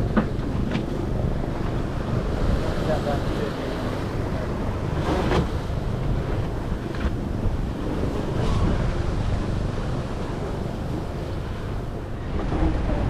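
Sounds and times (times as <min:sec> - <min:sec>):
ocean waves rushing: 0:00.0 - 0:13.0
wind buffeting microphone: 0:00.0 - 0:13.0.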